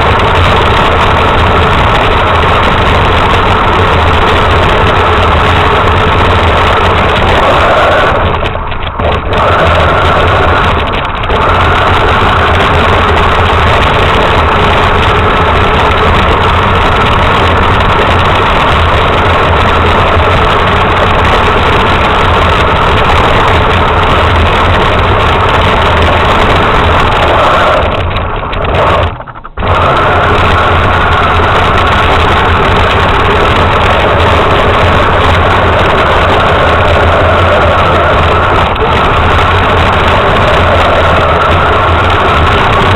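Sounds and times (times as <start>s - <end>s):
toy truck motor running: 0.0s - 42.9s.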